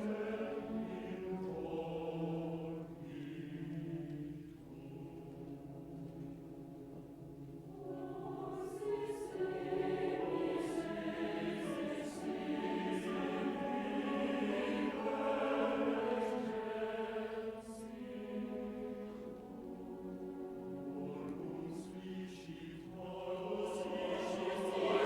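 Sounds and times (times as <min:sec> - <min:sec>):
mixed chorus singing: 0:00.0 - 0:06.3, 0:07.7 - 0:25.0.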